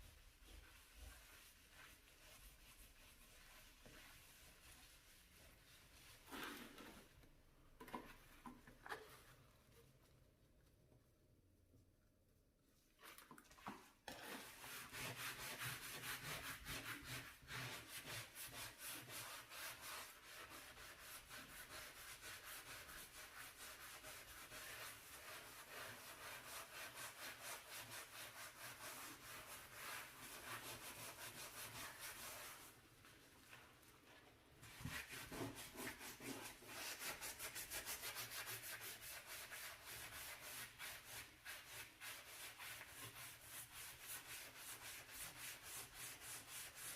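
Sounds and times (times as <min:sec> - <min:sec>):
brush scrubbing stovetop: 0:00.0 - 0:07.2, 0:13.6 - 0:46.9.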